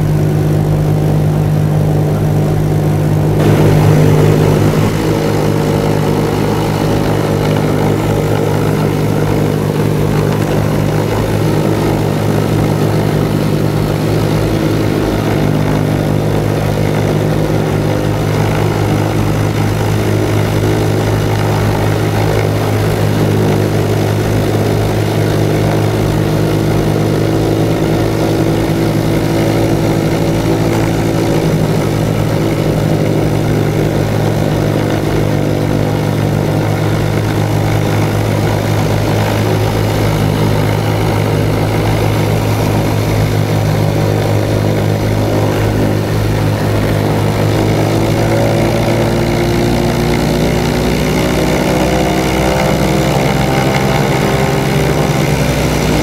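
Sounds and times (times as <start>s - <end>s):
radial aircraft engines droning: 0.0s - 56.0s.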